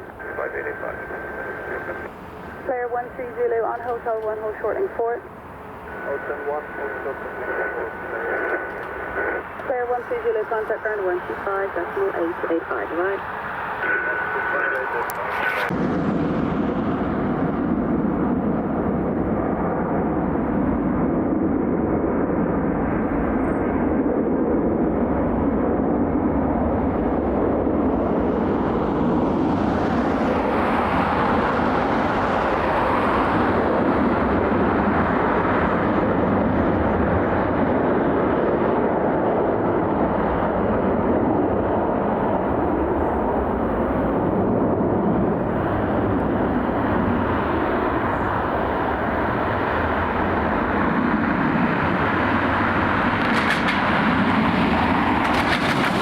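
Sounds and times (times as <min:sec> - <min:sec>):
jet engines rushing: 0:00.0 - 0:56.0.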